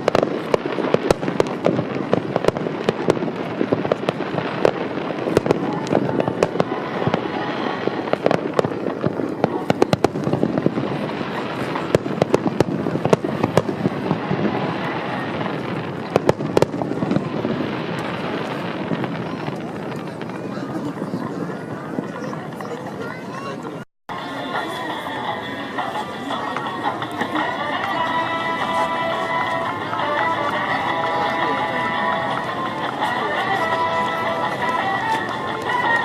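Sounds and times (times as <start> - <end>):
continuous rumble: 0.0 - 36.0
fireworks crackling and banging: 0.0 - 36.0.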